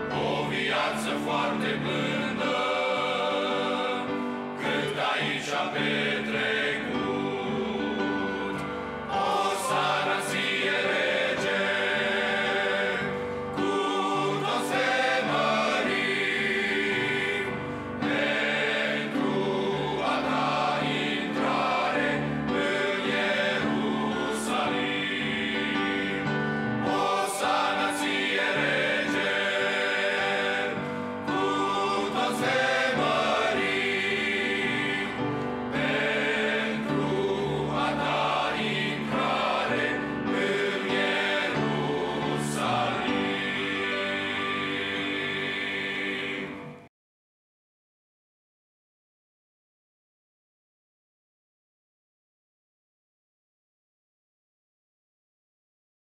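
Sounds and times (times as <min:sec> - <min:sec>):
men's choir singing a hymn: 0:00.0 - 0:46.9
piano accompaniment: 0:00.0 - 0:46.9.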